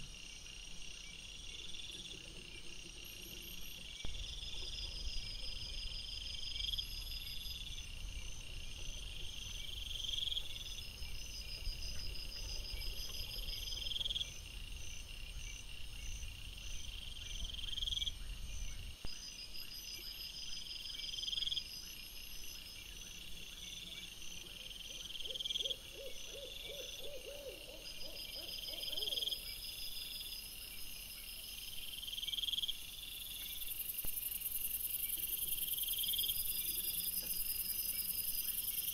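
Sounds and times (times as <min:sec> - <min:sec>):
crickets chirping: 0:00.0 - 0:38.9
faint high insect trill: 0:00.0 - 0:38.9.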